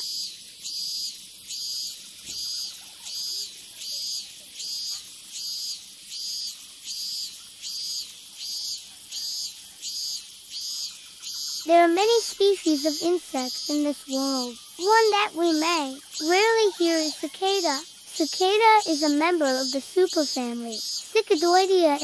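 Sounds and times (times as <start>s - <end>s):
cicada buzzing: 0.0s - 22.0s.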